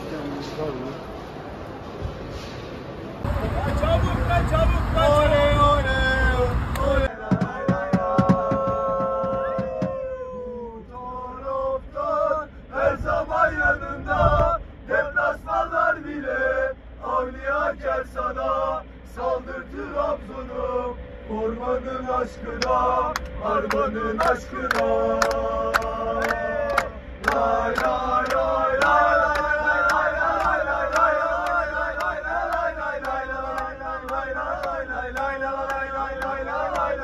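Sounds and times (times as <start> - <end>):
moving vehicle rumble: 0.0 - 37.0
men singing a chant: 4.3 - 37.0.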